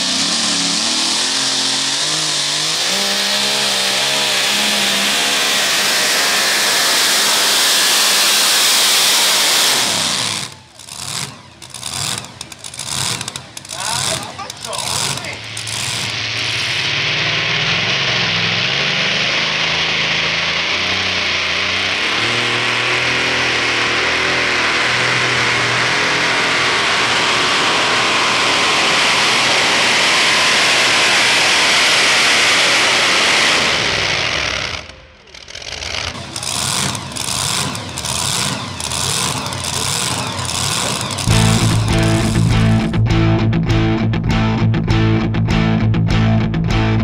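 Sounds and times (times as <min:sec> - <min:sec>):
truck engine at full throttle: 0:00.0 - 0:47.0.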